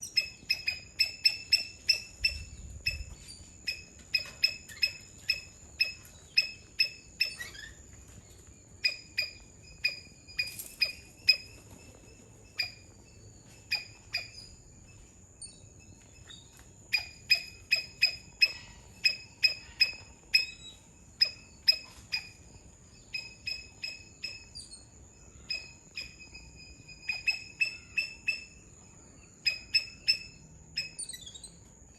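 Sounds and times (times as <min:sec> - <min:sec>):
squirrel chirping: 0:00.0 - 0:07.8, 0:08.8 - 0:11.6, 0:12.4 - 0:13.0, 0:13.6 - 0:14.6, 0:15.4 - 0:28.8, 0:29.4 - 0:31.6.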